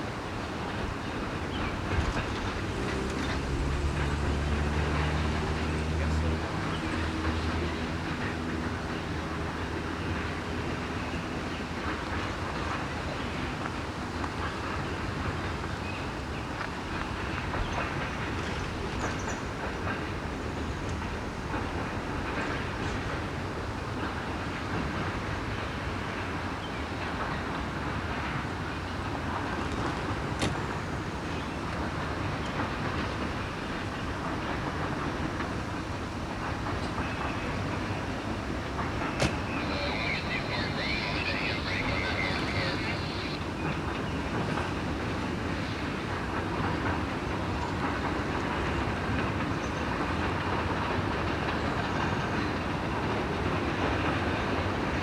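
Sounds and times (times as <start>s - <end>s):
train wheels rumbling on rail: 0.0s - 55.0s
wheels clicking over rail joints: 0.0s - 55.0s.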